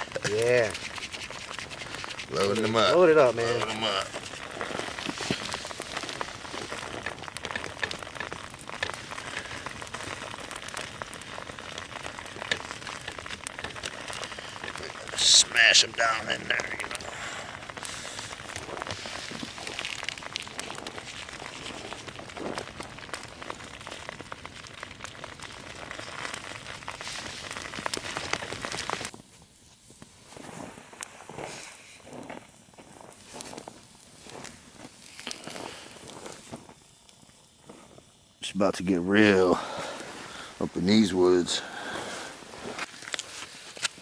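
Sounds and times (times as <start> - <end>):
sharp pops: 0.0 - 38.1
food sizzling over campfire coals: 0.0 - 44.0.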